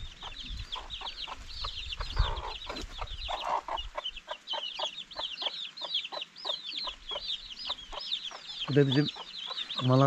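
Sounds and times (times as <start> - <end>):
chicks peeping: 0.0 - 10.0
hen clucking: 0.0 - 10.0.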